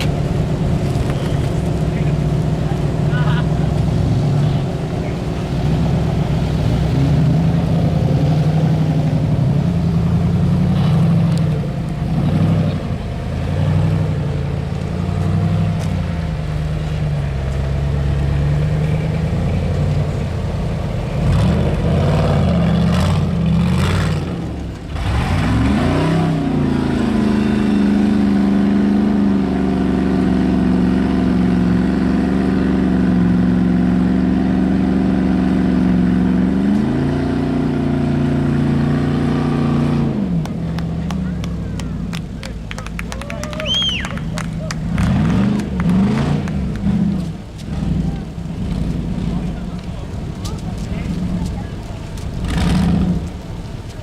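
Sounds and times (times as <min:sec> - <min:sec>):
off-road engine revving: 0:00.0 - 0:54.0.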